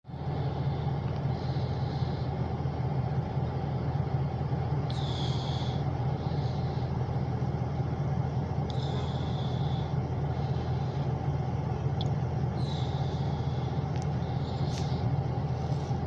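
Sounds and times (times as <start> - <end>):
car engine and road noise: 0.1 - 16.0.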